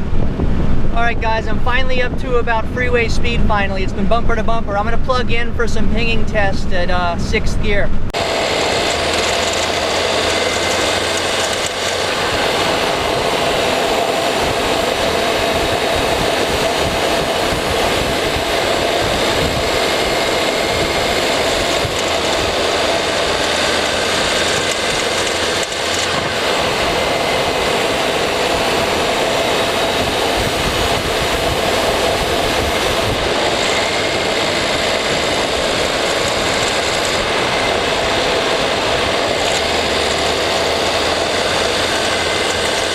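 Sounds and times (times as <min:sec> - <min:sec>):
rushing air noise: 0:00.0 - 0:42.9
car engine running at speed: 0:08.0 - 0:42.9.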